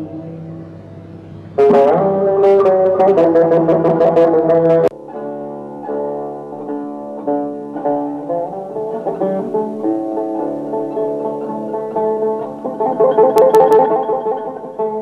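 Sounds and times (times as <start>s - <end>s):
loud plucked string music: 0.0s - 15.0s
slow plucked lute music: 0.0s - 15.0s.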